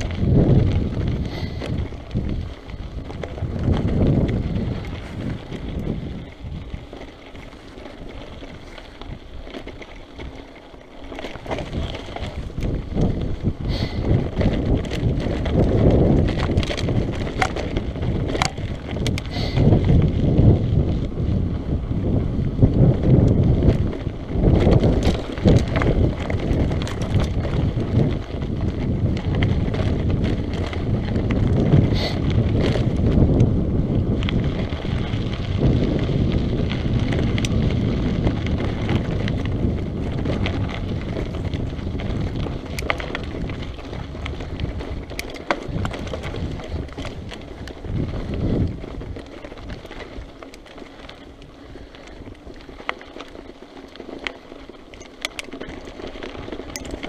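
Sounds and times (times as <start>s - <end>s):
bike clicks and rattles: 0.0s - 57.0s
tyres rolling over loose stones: 0.0s - 57.0s
wind buffeting microphone: 0.0s - 57.0s.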